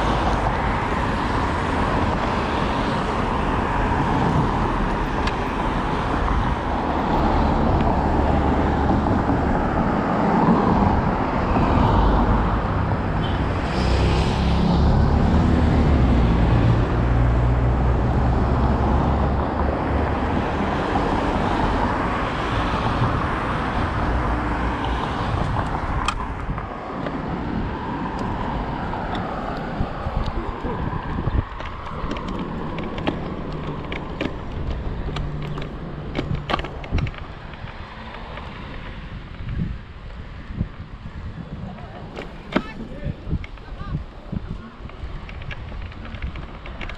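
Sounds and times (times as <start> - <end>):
cars driving by: 0.0 - 46.9.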